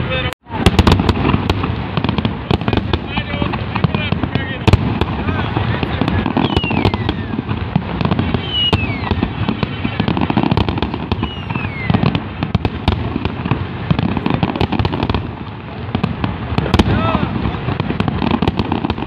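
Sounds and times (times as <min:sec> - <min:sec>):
fireworks bangs and crackles: 0:00.0 - 0:19.0
fireworks falling whistles: 0:00.0 - 0:19.0.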